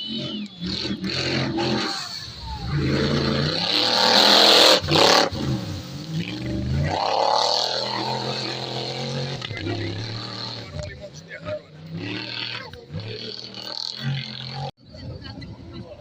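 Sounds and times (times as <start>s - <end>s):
rally car engine revving hard: 0.0s - 14.7s.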